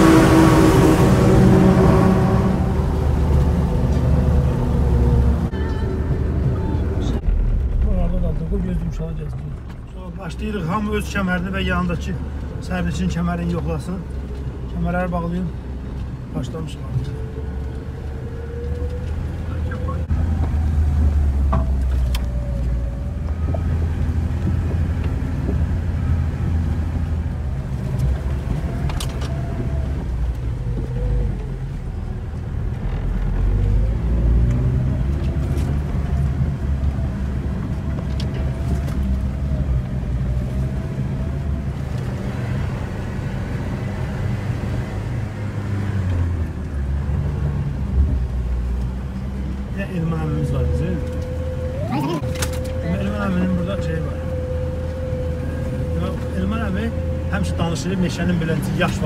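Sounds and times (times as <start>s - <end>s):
vehicle engine and road drone: 0.0s - 59.0s.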